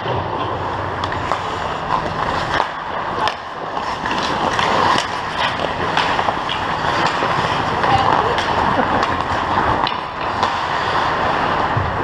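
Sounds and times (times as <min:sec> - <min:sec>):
skates scraping on ice: 0:00.0 - 0:12.0
sticks and puck clacking: 0:00.0 - 0:12.0.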